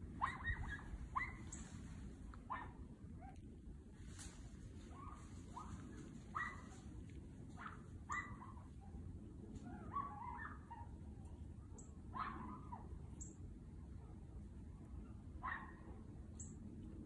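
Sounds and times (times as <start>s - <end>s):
small dogs yipping and barking: 0.0s - 3.5s, 4.1s - 16.6s.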